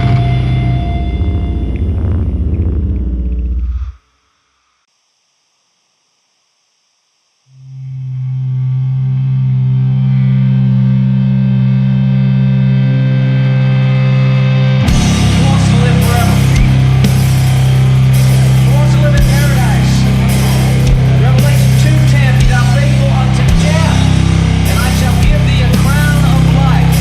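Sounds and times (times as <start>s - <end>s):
heavy metal band playing: 0.0s - 3.6s, 8.2s - 27.0s
distorted guitar chord ringing: 0.0s - 4.8s, 7.4s - 27.0s.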